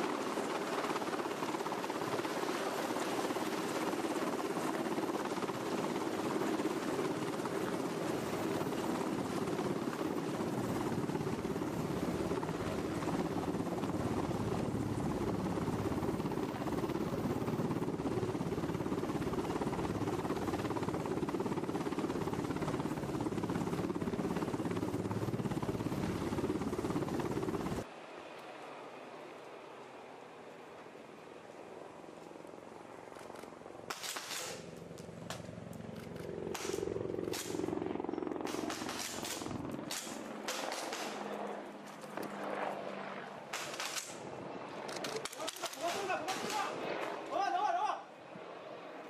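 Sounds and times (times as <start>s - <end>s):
helicopter rotor and turbine noise: 0.0s - 49.0s.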